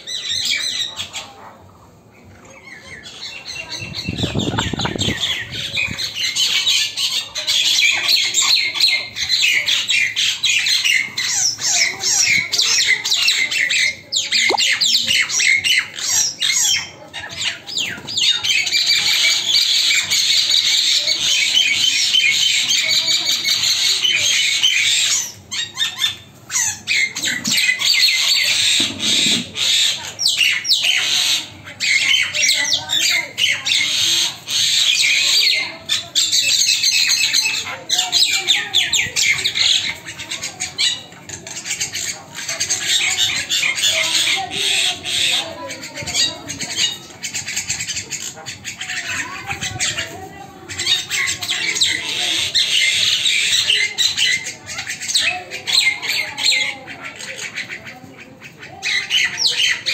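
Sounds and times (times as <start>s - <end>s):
small birds squawking: 0.0s - 59.9s.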